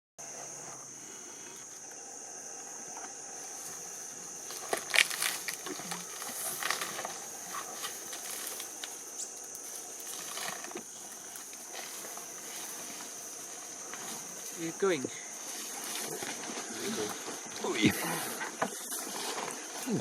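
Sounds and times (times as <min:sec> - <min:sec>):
high insect drone: 0:00.2 - 0:20.0
crackles and rustles: 0:02.6 - 0:20.0.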